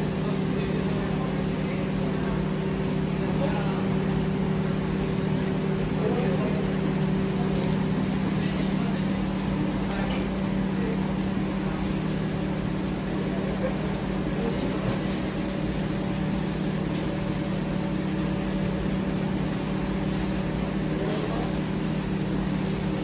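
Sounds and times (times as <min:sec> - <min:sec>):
kitchen machine humming: 0:00.0 - 0:23.0.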